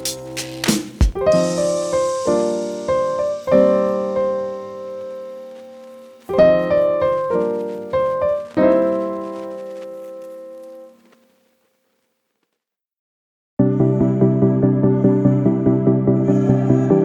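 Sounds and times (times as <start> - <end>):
slow piano chords: 0.0 - 11.0, 13.6 - 17.0.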